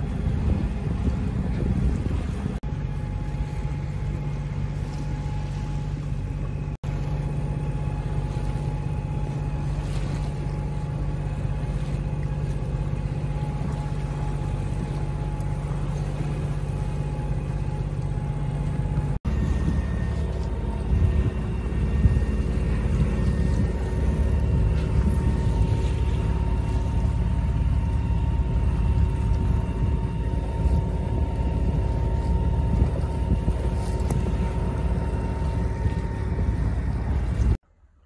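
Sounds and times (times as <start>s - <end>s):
steady low hum: 0.0s - 38.0s
water noise: 0.0s - 38.0s
wind: 0.0s - 38.0s.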